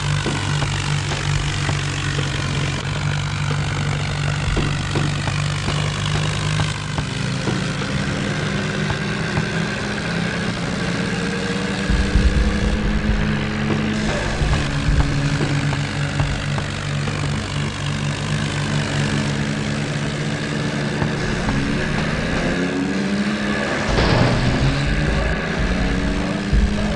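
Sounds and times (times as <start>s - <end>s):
deep rumble: 0.0s - 20.0s, 21.0s - 26.9s
diesel tractor engine running hard: 0.0s - 26.9s.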